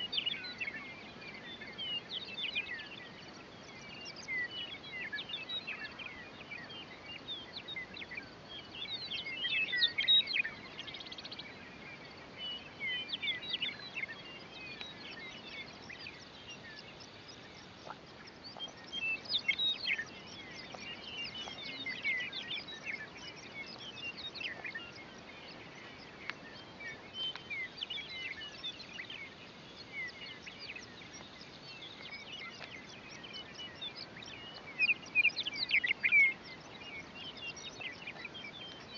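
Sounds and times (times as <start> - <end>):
faint background hiss: 0.0 - 38.9
meadowlarks singing: 0.0 - 38.9.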